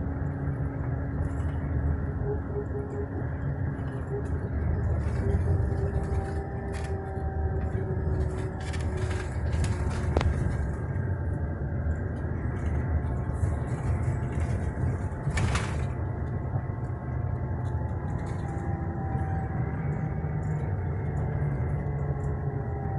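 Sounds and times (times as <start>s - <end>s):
vehicle rumble from inside cabin: 0.0s - 22.9s.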